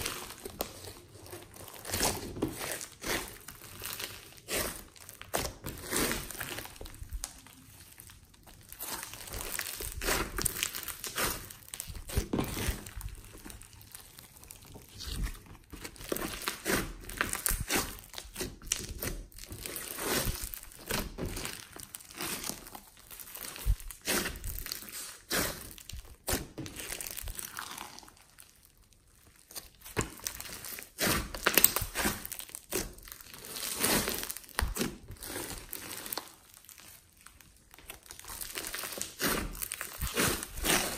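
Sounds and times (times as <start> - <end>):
slime crackling and squelching: 0.0 - 40.9.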